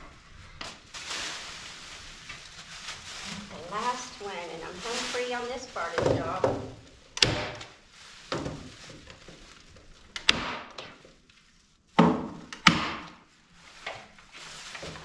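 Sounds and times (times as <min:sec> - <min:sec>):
plastic sheeting crinkling: 0:00.0 - 0:15.0.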